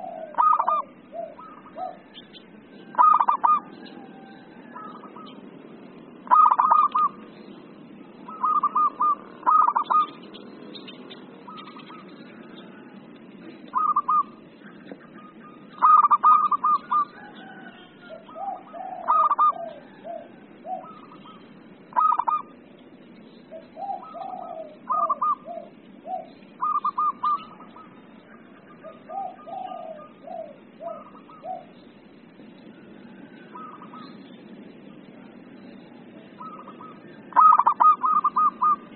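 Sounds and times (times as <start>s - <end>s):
doves cooing: 0.0s - 38.9s
steady low hiss: 0.0s - 38.9s.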